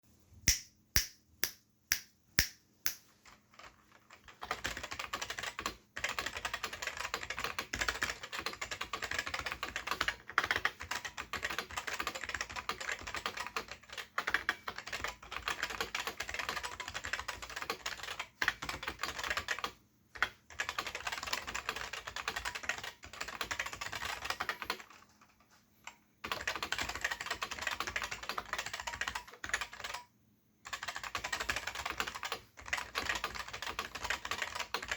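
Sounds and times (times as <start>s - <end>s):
keyboard typing: 0.5s - 34.9s.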